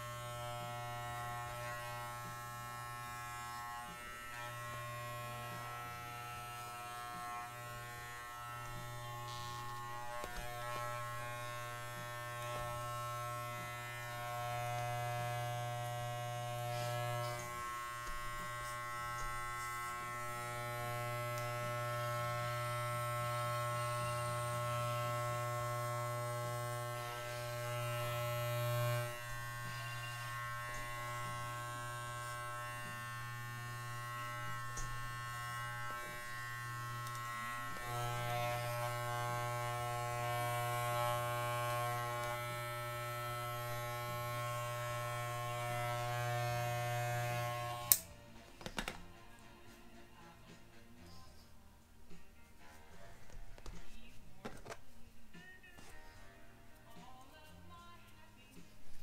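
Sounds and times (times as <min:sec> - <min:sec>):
electric pet clippers buzzing: 0:00.0 - 0:48.1.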